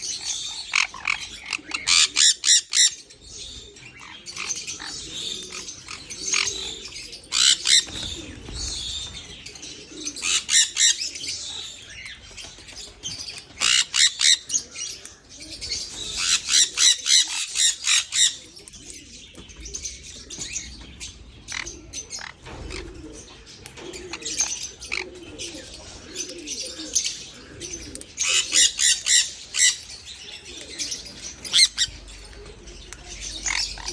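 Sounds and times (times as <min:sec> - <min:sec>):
birds chirping: 0:00.0 - 0:33.9
dove-like cooing: 0:00.0 - 0:33.9.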